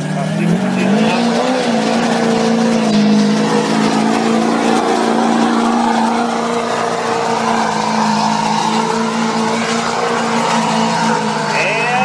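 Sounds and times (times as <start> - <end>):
truck engine at high revs: 0.0 - 12.0.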